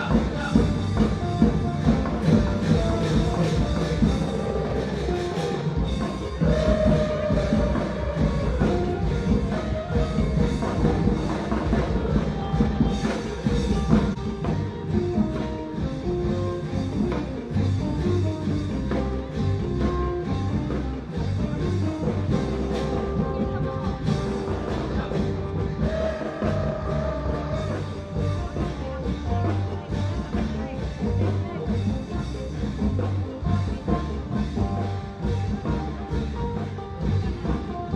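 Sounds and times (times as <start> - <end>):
instrumental music with drums: 0.0 - 37.9.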